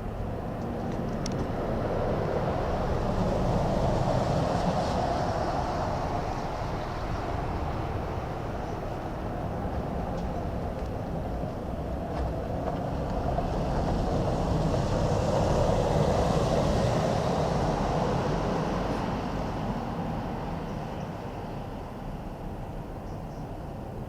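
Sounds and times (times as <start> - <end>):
distant airliner rumble: 0.0 - 24.0.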